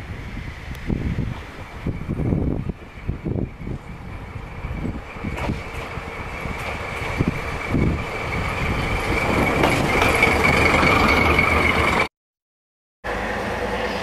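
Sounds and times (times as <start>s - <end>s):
locomotive engine passing: 0.4s - 12.1s, 13.1s - 14.0s.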